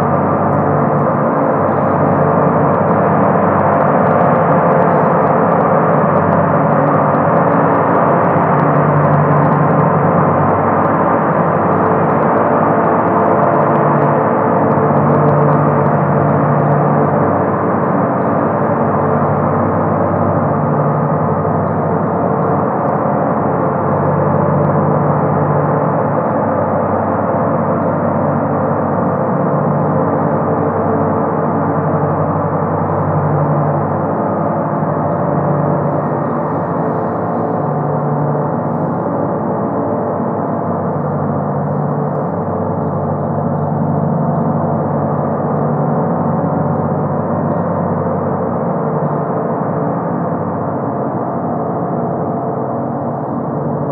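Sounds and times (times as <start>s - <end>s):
gong drone: 0.0s - 53.9s.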